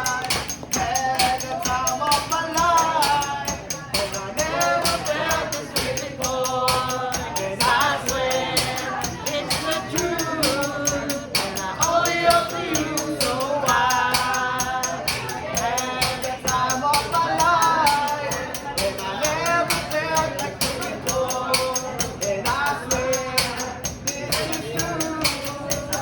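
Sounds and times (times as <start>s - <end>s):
background music with percussive beat: 0.0s - 26.0s.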